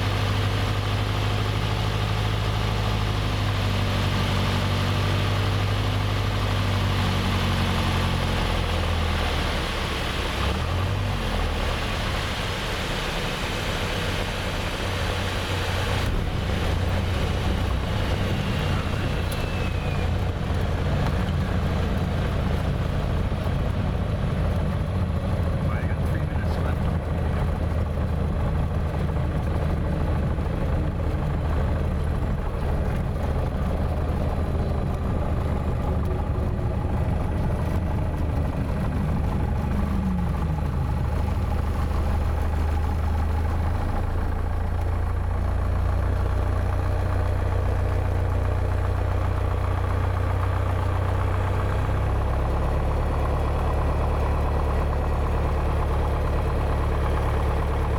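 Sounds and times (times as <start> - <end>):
propeller aircraft engine running: 0.0 - 57.9.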